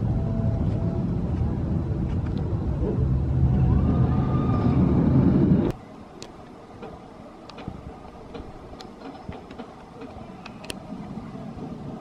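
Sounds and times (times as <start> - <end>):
roller coaster train rumbling: 0.0 - 12.0.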